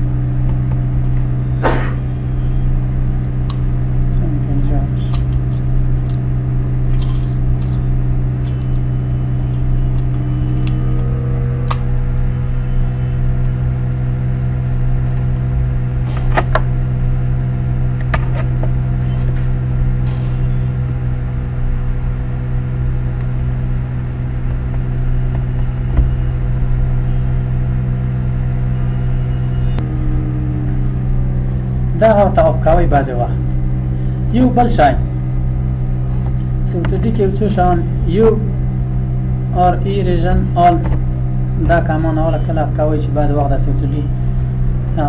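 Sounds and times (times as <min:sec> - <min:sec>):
loud low electrical hum: 0:00.0 - 0:45.0.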